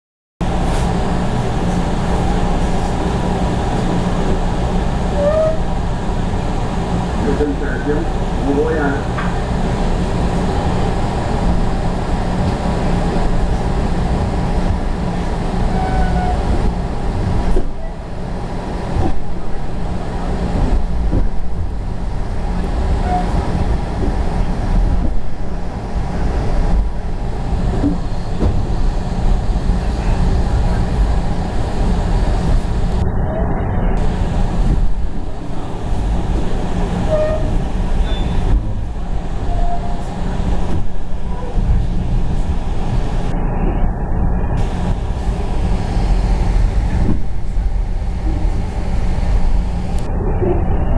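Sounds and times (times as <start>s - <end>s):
train rumbling: 0.4s - 50.9s
wind noise: 9.1s - 50.9s.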